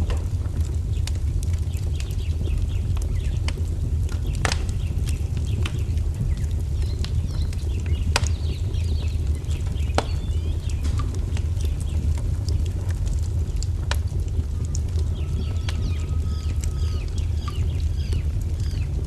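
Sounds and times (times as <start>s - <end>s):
sharp pops from fire: 0.0s - 19.0s
wood fire crackling: 0.0s - 19.0s
small birds chirping: 0.6s - 13.9s, 14.6s - 19.0s.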